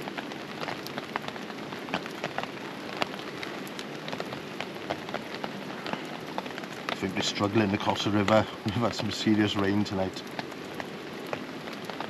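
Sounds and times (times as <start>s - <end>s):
heavy rain hissing on tarp: 0.0s - 12.0s
sharp rain drop taps: 0.0s - 12.0s.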